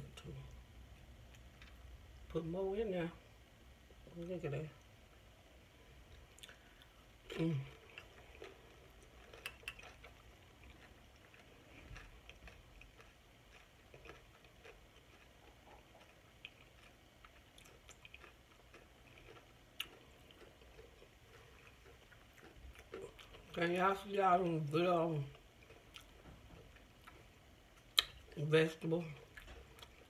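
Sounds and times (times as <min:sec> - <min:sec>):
chewing with wet mouth sounds: 0:01.2 - 0:02.3, 0:05.9 - 0:30.0.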